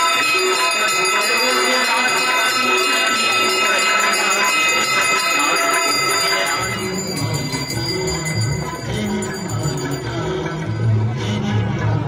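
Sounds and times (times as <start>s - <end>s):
metal hand bells ringing: 0.0s - 10.6s.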